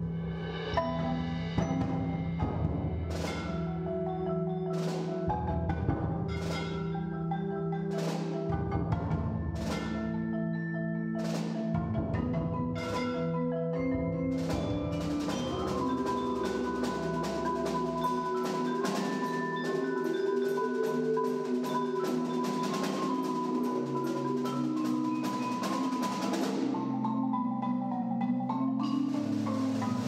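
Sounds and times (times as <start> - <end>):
percussion ensemble playing: 0.0 - 30.0
solo marimba: 0.0 - 30.0.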